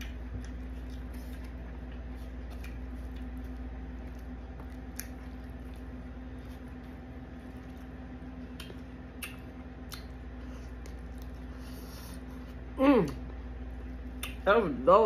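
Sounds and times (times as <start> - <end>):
chewing: 0.0 - 13.2
steady low hum: 0.0 - 15.0.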